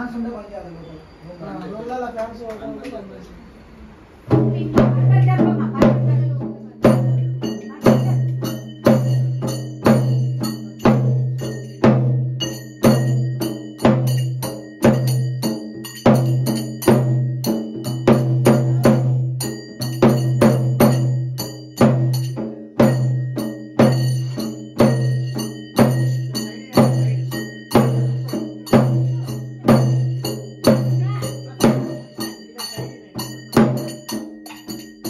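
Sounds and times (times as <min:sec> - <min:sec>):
frame drum beaten with stick: 0:04.2 - 0:35.0
bright metallic ringing: 0:04.3 - 0:35.0.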